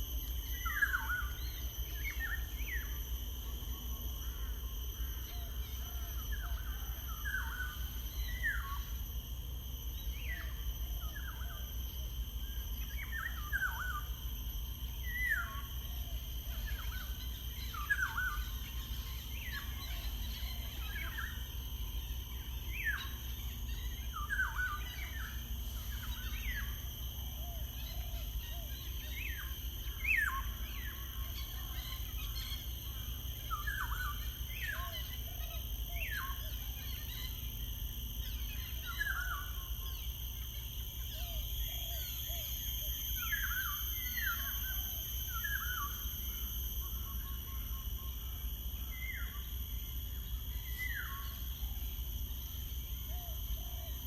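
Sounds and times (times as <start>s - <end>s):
high-pitched background hum: 0.0s - 54.0s.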